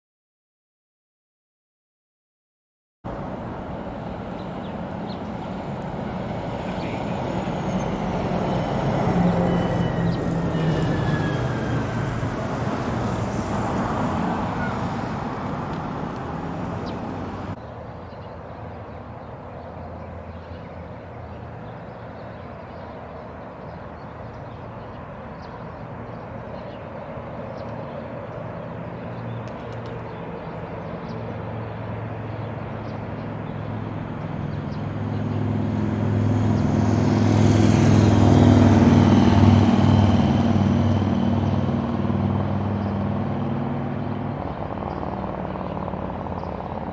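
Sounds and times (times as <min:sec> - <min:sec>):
road traffic noise: 0:03.1 - 0:46.9.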